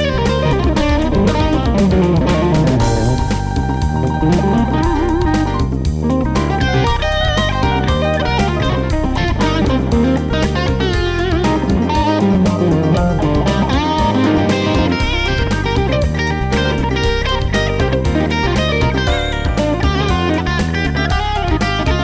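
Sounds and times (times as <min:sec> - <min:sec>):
backing track with bass: 0:00.0 - 0:22.0
electric guitar solo: 0:00.0 - 0:22.0.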